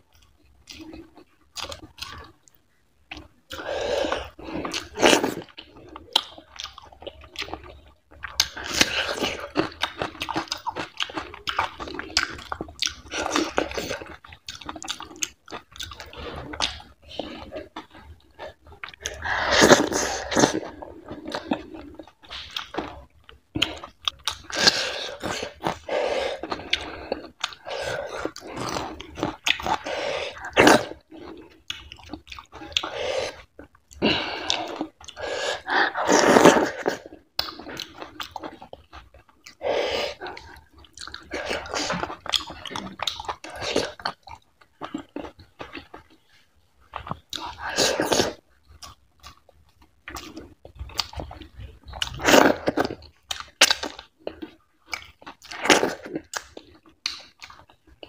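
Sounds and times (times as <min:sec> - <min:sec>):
wet chewing: 0:00.1 - 0:58.0.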